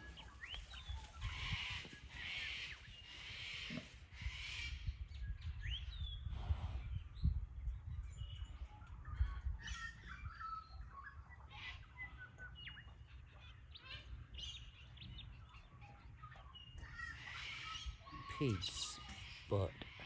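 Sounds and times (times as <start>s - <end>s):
bird chirps and calls: 0.0s - 20.0s.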